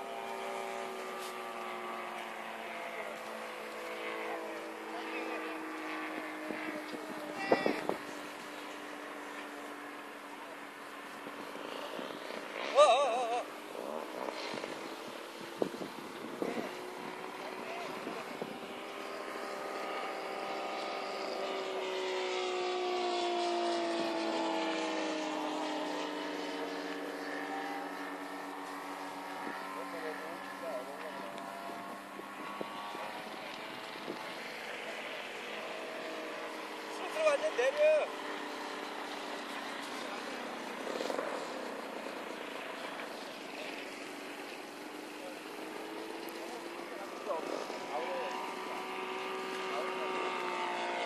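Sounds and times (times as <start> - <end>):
model plane engine drone: 0.0 - 51.0.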